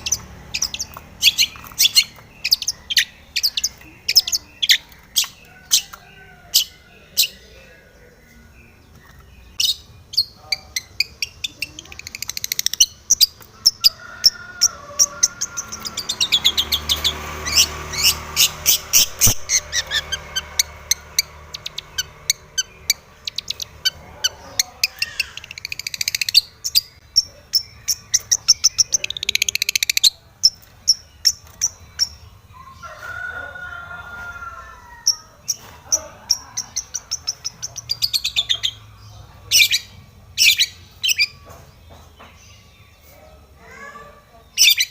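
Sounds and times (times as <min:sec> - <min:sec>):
bird chirping and chattering: 0:00.0 - 0:33.0, 0:35.0 - 0:44.9.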